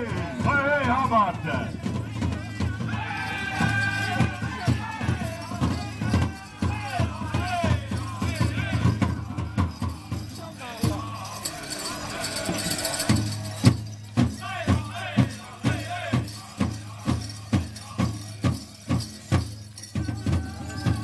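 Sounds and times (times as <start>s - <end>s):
people singing: 0.0s - 0.6s, 1.4s - 21.0s.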